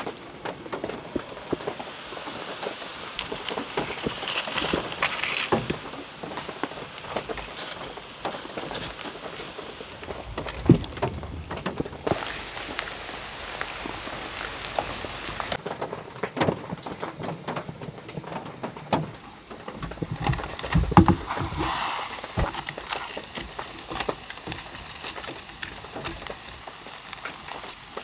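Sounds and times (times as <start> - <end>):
heavy rain on a shelter: 0.0 - 28.0
small clicks and crackles: 0.0 - 28.0.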